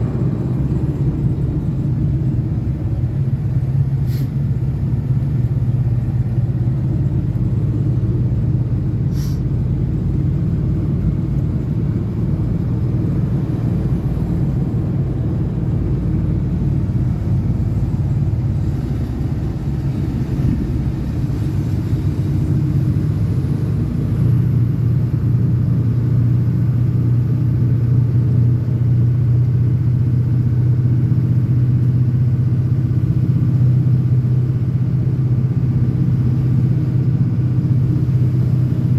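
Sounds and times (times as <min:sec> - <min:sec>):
pickup truck engine and road noise: 0:00.0 - 0:38.9.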